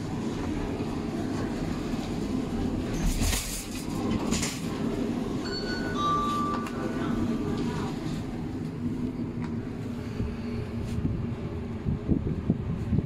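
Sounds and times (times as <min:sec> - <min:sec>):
lift car rumble: 0:00.0 - 0:13.0.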